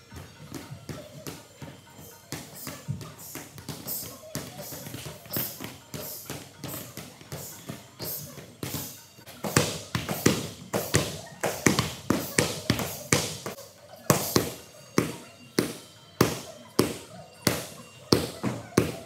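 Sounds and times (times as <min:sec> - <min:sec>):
kicks and punches hitting pads: 0:02.2 - 0:19.0.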